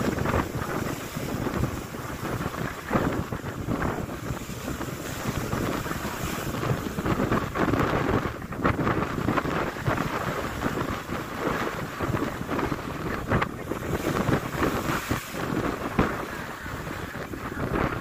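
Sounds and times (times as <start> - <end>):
waves breaking on shore: 0.0 - 18.0
wind gusting on microphone: 0.0 - 18.0.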